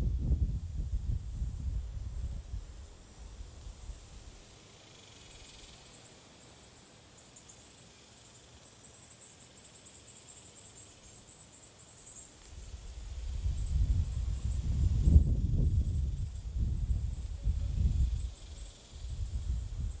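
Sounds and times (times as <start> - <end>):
low outdoor hiss: 0.0 - 20.0.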